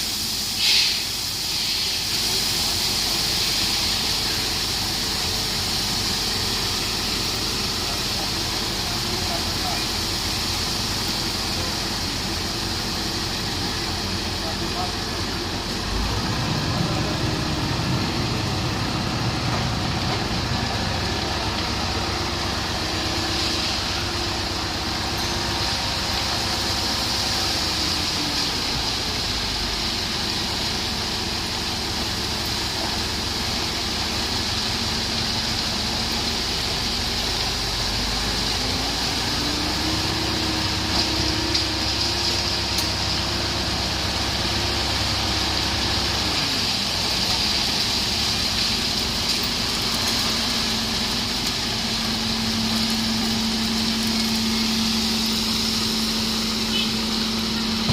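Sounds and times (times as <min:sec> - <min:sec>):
truck diesel engine running: 0:01.8 - 0:57.9.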